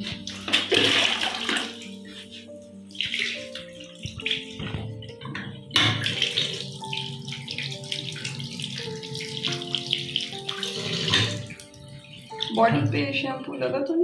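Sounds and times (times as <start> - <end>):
faucet water splashing into sink: 0.0 - 2.2, 2.9 - 12.7
soft background music: 0.0 - 14.0.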